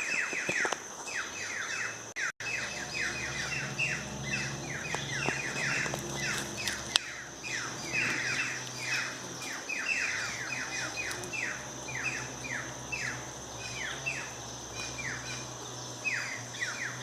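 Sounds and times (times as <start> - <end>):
birds calling: 0.0 - 17.0
high-pitched whine: 0.0 - 17.0.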